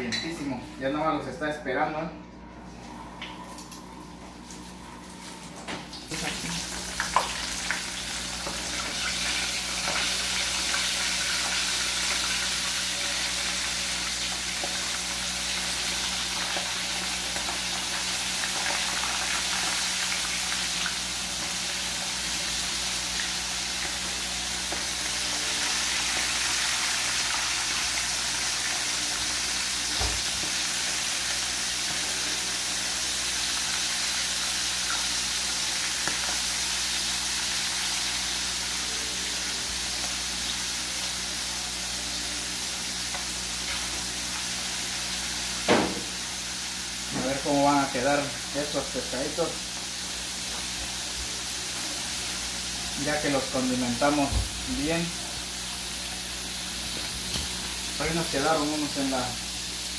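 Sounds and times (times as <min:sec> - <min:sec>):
fish frying in hot oil: 0:06.1 - 0:59.9.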